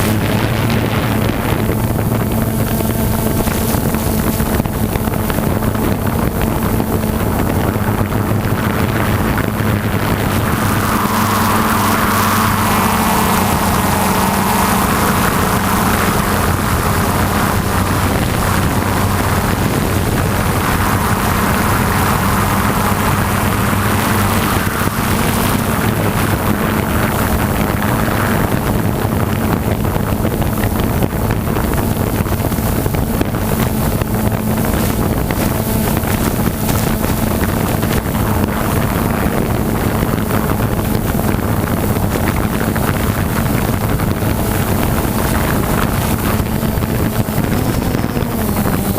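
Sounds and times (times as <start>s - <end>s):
aircraft engine droning: 0.0s - 48.9s
wind buffeting microphone: 0.0s - 48.9s.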